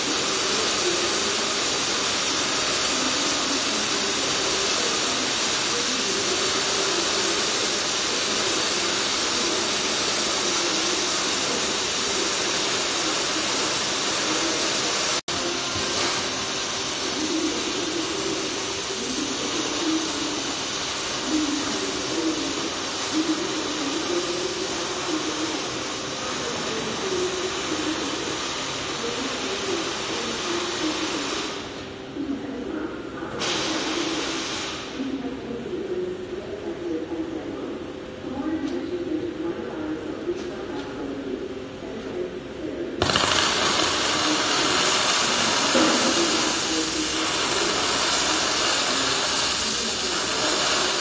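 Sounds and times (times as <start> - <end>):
welding arc hissing: 0.0 - 31.9, 33.4 - 35.0, 43.0 - 51.0.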